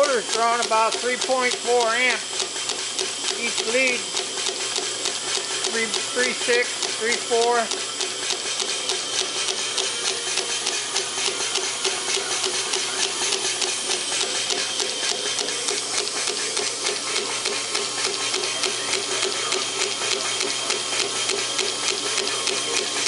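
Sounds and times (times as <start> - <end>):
air compressor pumping: 0.0 - 23.0.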